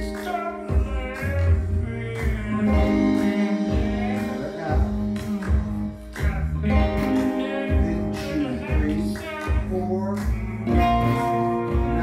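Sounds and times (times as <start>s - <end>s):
electric guitar strumming: 0.0s - 12.0s
person singing: 0.0s - 12.0s.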